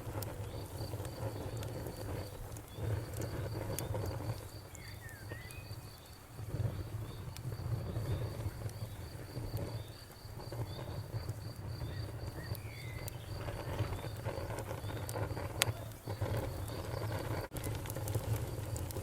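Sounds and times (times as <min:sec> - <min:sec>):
bonfire crackling and popping: 0:00.0 - 0:19.0
cricket chirping: 0:00.4 - 0:17.5.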